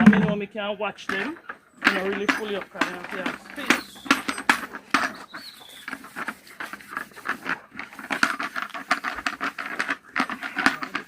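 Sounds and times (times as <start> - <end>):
chickens pecking and scratching: 1.0 - 11.0.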